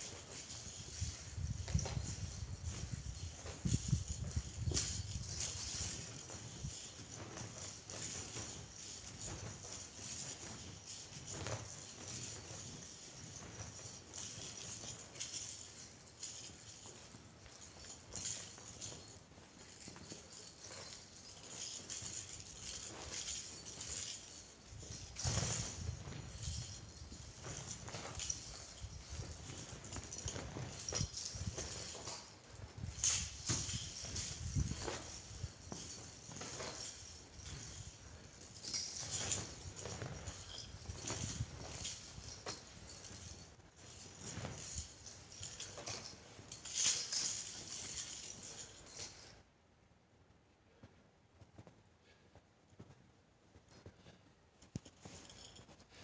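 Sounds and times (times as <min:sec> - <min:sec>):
chain whip jingling: 0:00.0 - 0:49.5, 0:53.6 - 0:56.0.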